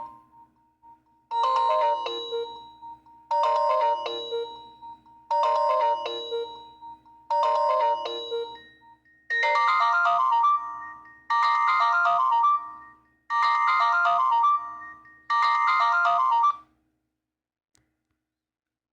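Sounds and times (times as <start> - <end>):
phone ringtone chime melody: 0.0 - 0.3, 1.3 - 16.6.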